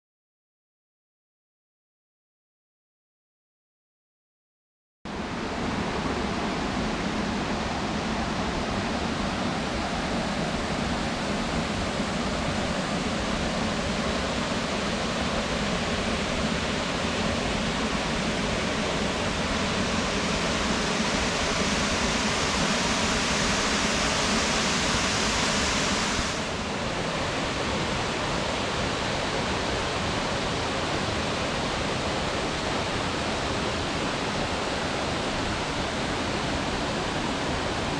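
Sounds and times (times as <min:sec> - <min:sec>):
waterfall rushing: 0:06.0 - 0:37.9.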